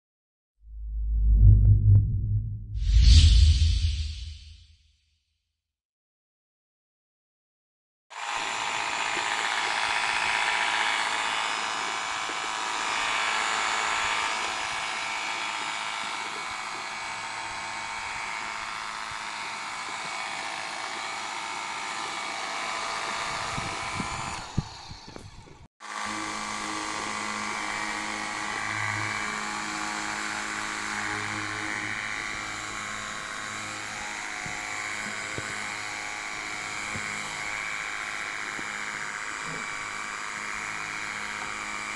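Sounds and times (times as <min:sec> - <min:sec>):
pressure washer motor whining: 0:08.2 - 0:41.9.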